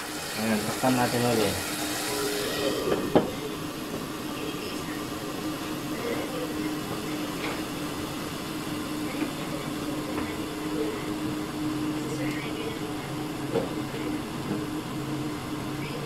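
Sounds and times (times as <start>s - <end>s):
pot simmering: 0.0s - 16.0s
steady low hum: 0.0s - 16.0s.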